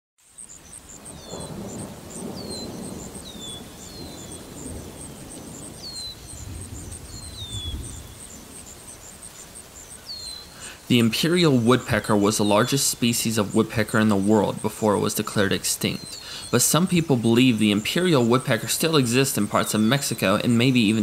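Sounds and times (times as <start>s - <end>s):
thin high chirping: 0.2s - 21.0s
distant thunder rumbling: 0.6s - 21.0s.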